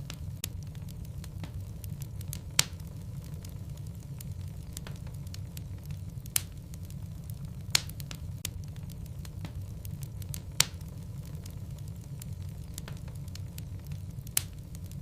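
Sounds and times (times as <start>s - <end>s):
fire crackling in fireplace: 0.0s - 15.0s
loud sharp pops of burning logs: 0.0s - 15.0s.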